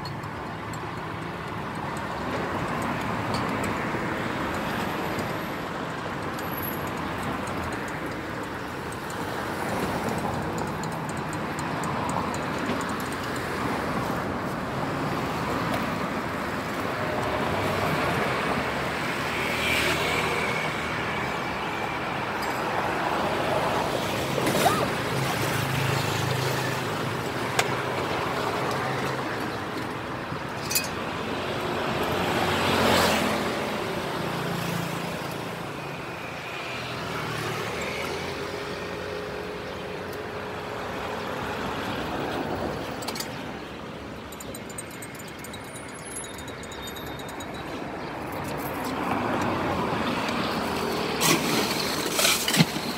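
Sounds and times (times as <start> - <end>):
passing vehicles hum: 0.0 - 52.9.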